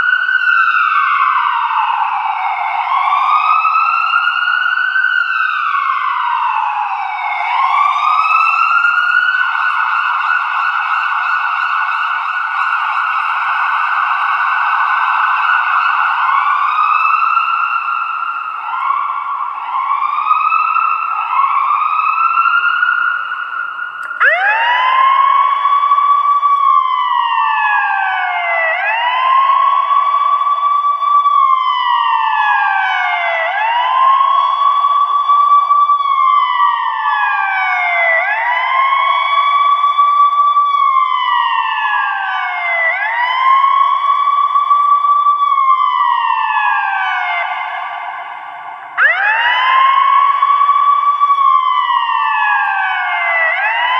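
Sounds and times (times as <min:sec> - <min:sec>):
ambulance siren: 0:00.0 - 0:53.9.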